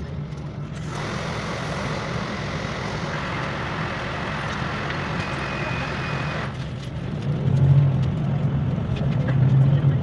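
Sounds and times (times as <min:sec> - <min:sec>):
bus hum and road noise: 0:00.0 - 0:10.0.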